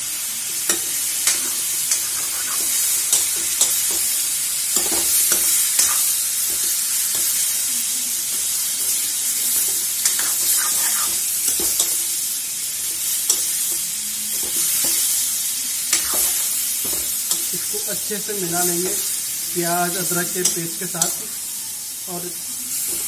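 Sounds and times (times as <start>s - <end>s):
chicken frying in hot oil: 0.0s - 23.0s.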